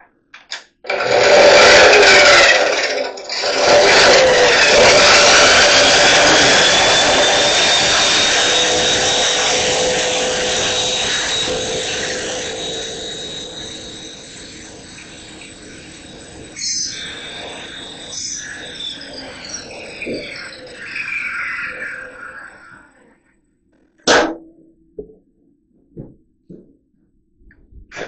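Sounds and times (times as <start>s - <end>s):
machine whine: 0.0s - 24.3s.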